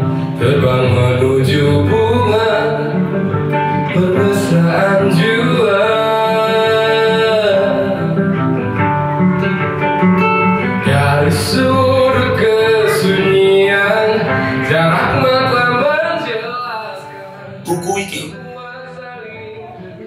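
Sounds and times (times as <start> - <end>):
acoustic guitar: 0.0 - 20.0
man singing: 0.4 - 8.2, 10.8 - 20.0.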